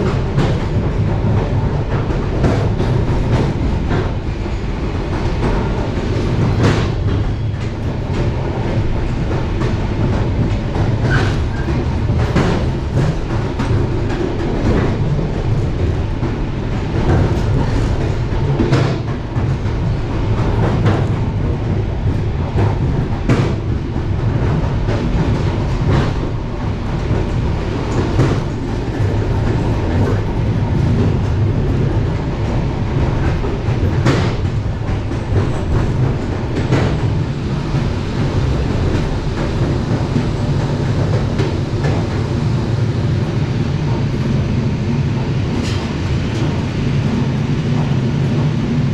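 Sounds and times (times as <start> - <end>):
train rumbling on rails: 0.0 - 48.9
train wheels clicking: 0.0 - 48.9.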